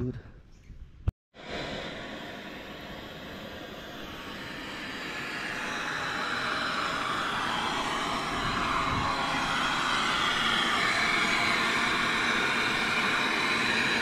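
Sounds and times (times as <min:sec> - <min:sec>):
gas torch hissing: 0:01.4 - 0:14.0.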